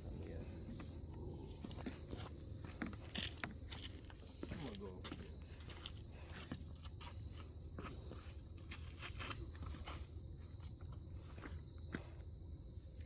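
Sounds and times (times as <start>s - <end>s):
high-pitched insect trill: 0.0s - 13.0s
footsteps crunching on rocky trail: 1.6s - 12.2s.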